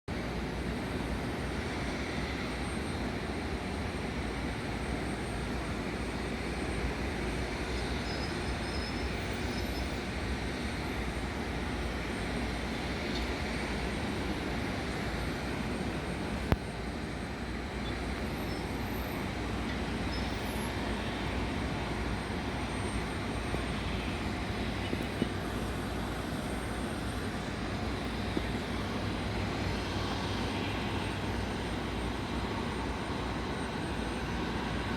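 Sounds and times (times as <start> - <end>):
jet engines rumbling: 0.1 - 34.9.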